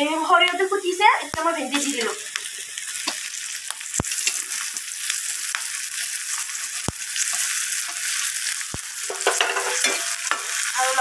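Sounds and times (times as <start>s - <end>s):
okra sizzling in hot oil: 0.0s - 11.0s.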